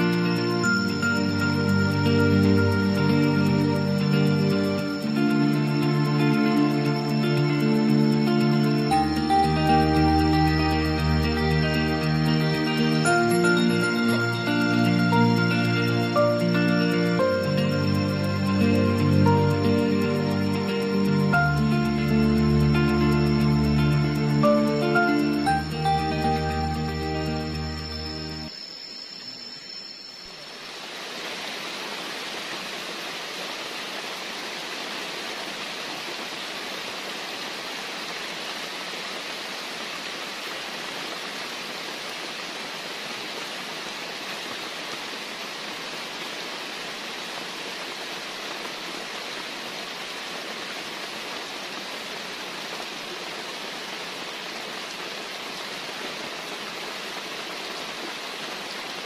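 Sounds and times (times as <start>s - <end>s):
heavy rain: 0.0s - 59.0s
running water: 0.0s - 59.0s.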